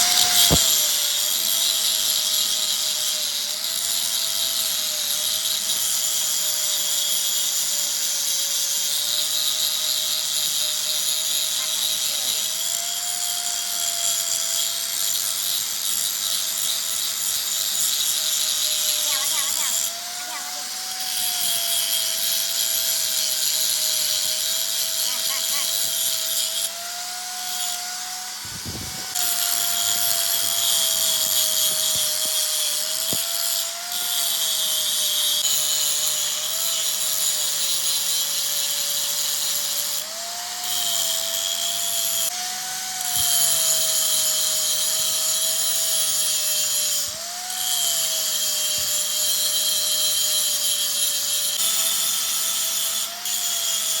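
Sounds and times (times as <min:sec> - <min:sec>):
power tool grinding metal: 0:00.0 - 0:54.0.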